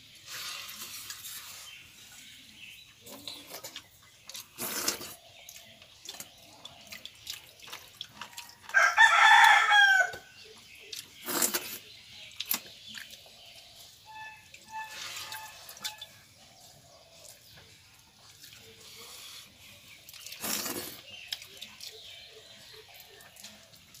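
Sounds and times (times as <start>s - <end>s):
hand stirring watery rice: 0.0s - 9.6s, 10.6s - 24.0s
wet dripping: 3.1s - 16.3s, 17.2s - 24.0s.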